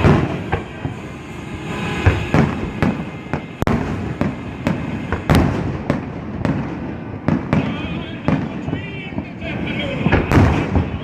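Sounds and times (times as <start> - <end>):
fireworks sharp bangs: 0.0 - 11.0
rumble of explosions: 0.0 - 11.0.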